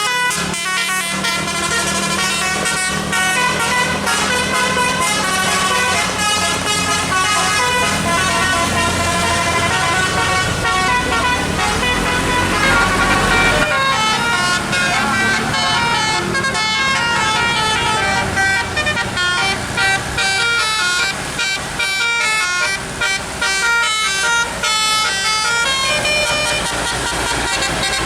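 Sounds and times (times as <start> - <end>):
low engine hum: 0.0 - 28.0
musical air horn melody: 0.0 - 28.0.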